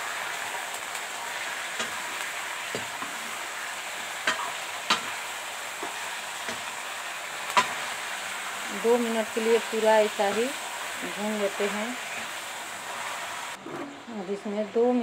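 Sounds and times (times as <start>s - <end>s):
chicken sizzling in hot oil: 0.0s - 13.6s.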